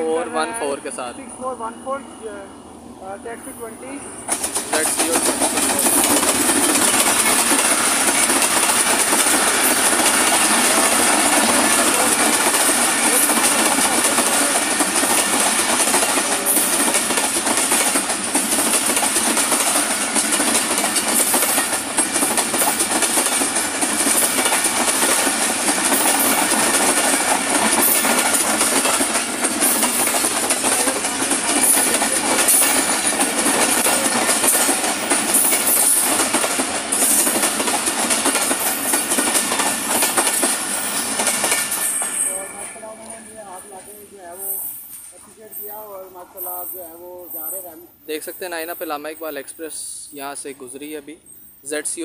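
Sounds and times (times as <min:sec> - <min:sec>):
diesel locomotive passing: 0:00.0 - 0:49.7
train wheels clattering over joints: 0:04.2 - 0:49.6.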